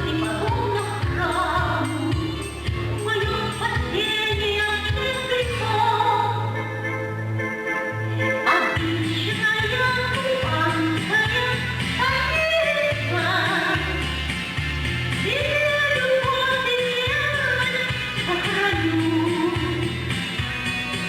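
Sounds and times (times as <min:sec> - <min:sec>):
woman singing: 0:00.0 - 0:06.8, 0:08.4 - 0:14.2, 0:15.2 - 0:20.1
instrumental accompaniment with bass: 0:00.0 - 0:21.0.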